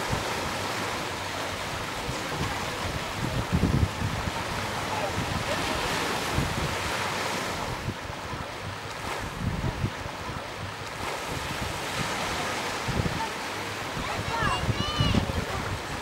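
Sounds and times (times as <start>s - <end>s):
surf washing over pebbles: 0.0s - 16.0s
wind buffeting microphone: 0.0s - 16.0s.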